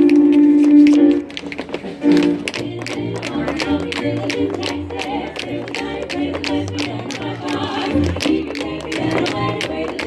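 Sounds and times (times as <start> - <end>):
rhythmic percussion: 0.0 - 10.0
swing dance music: 0.0 - 10.0.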